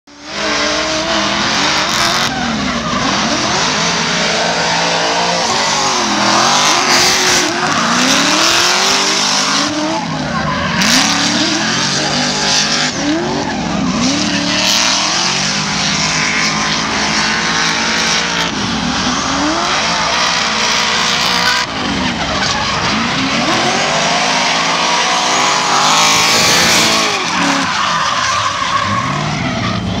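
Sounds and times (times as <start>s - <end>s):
car engines revving: 0.1s - 30.0s
tyres skidding and squealing: 0.1s - 30.0s.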